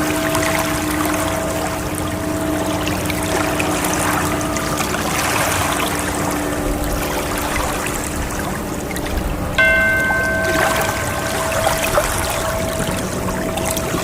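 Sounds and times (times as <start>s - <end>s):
ocean waves: 0.0s - 14.0s
soft held musical tones: 0.0s - 14.0s.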